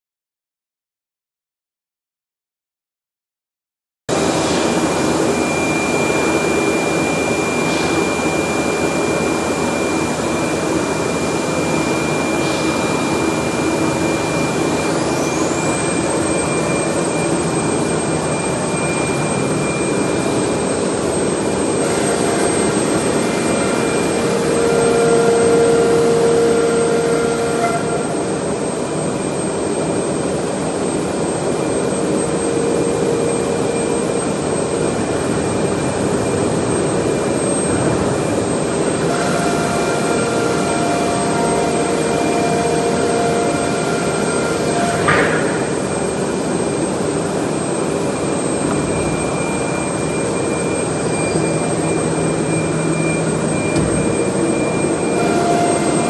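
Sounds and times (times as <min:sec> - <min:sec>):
cnc machine rushing noise: 0:04.1 - 0:56.0
high steady whine: 0:04.1 - 0:56.0.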